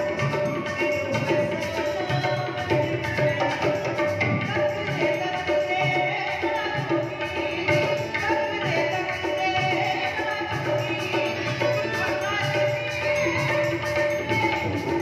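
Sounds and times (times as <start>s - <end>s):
steady drum rhythm: 0.0s - 15.0s
woman singing through a microphone: 0.0s - 15.0s.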